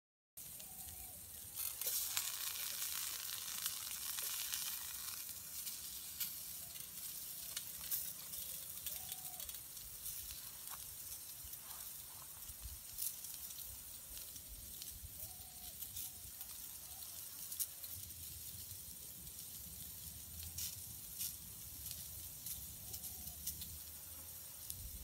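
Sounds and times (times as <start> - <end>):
small crackles: 0.4 - 25.0
vegetables sizzling on hot metal: 0.4 - 25.0.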